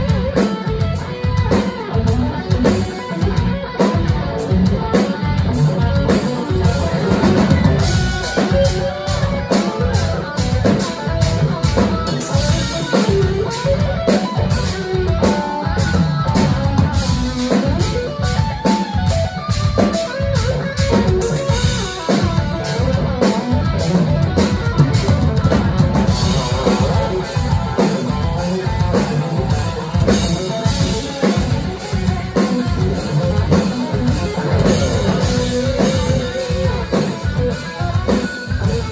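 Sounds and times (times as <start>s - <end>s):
metal band playing: 0.0s - 38.9s.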